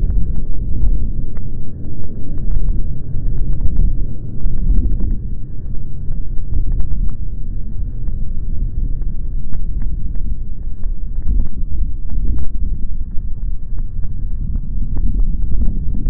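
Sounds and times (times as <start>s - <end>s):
slowed airplane landing rumble: 0.0s - 16.0s
wind buffeting microphone: 0.0s - 16.0s.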